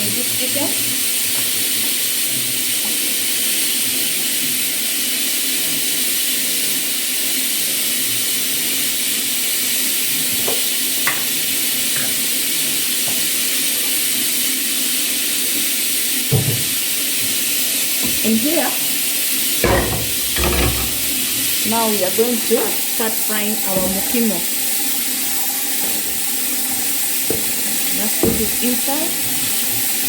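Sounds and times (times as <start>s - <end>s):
oil sizzling: 0.0s - 30.0s.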